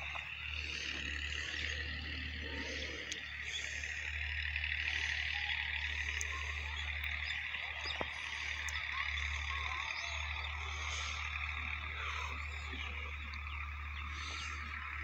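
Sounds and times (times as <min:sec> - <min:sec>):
chorus of calling animals: 0:00.0 - 0:15.0
steady low hum: 0:00.0 - 0:15.0.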